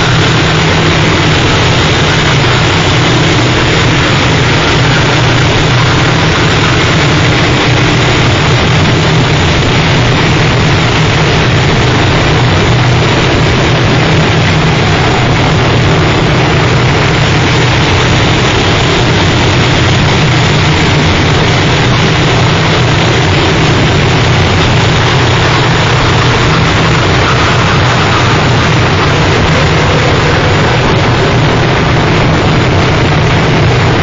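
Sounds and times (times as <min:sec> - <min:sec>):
harsh noise music: 0:00.0 - 0:34.0
low rumble: 0:00.0 - 0:34.0.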